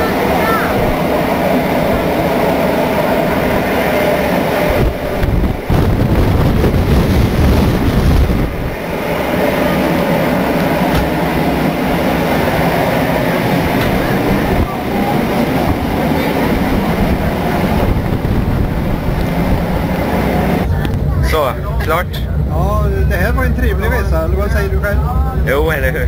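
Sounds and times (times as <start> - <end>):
railway carriage rumbling and rattling: 0.0 - 26.0.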